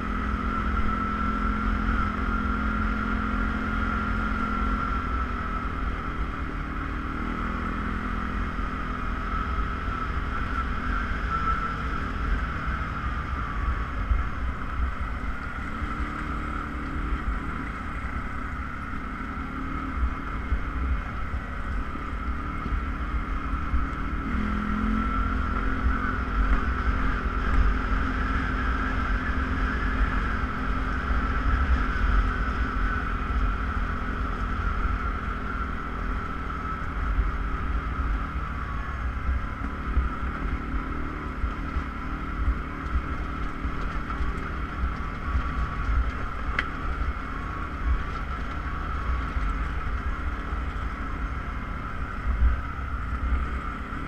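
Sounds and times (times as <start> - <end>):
atv engine running: 0.0 - 54.0
wind rumbling on microphone: 0.0 - 54.0.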